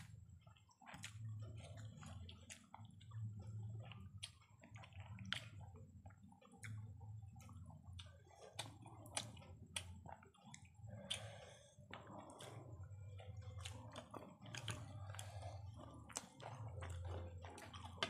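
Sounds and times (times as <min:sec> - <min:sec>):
chewing lip-smacks: 0:00.0 - 0:18.0.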